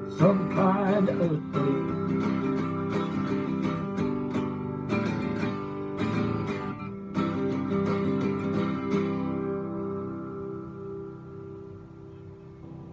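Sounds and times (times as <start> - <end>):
acoustic guitar strumming chords: 0.0 - 12.9.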